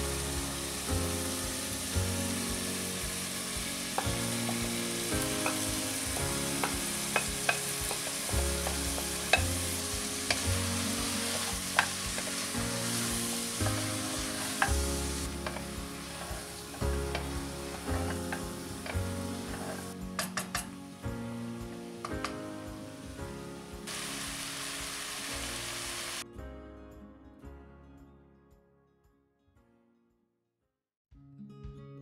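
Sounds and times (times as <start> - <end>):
food sizzling in a pot: 0.0 - 26.2.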